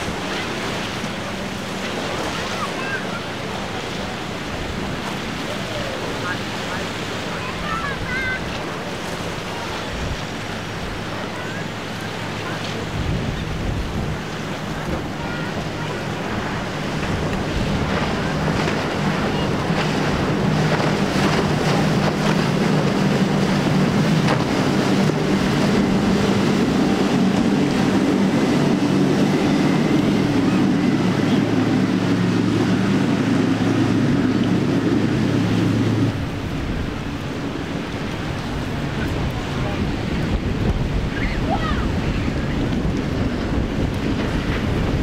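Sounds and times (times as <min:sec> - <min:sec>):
hull spray: 0:00.0 - 0:45.0
outboard motors droning: 0:00.0 - 0:45.0
wind on microphone: 0:00.0 - 0:45.0.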